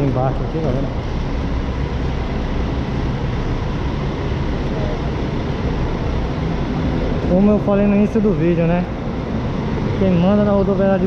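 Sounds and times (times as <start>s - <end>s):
idling buses rumble: 0.0s - 11.0s.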